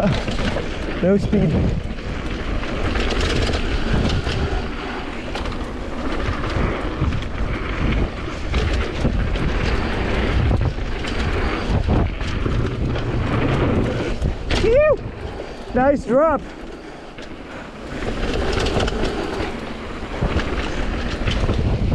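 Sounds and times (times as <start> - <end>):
bike rattling over bumps: 0.0 - 21.9
tyres rumbling on dirt: 0.0 - 21.9
wind buffeting microphone: 0.0 - 21.9.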